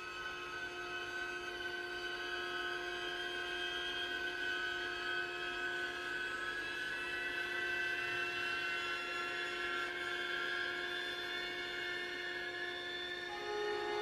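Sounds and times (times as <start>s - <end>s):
horror film drone: 0.0s - 14.0s.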